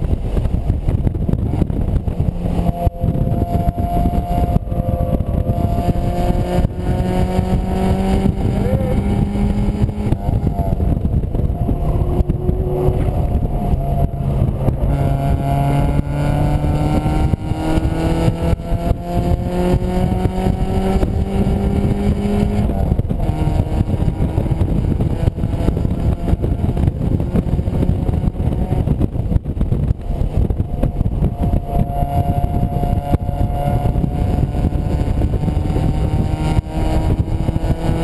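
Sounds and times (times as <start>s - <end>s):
car engine revving: 0.0s - 38.0s
wind rumble on microphone: 0.0s - 38.0s.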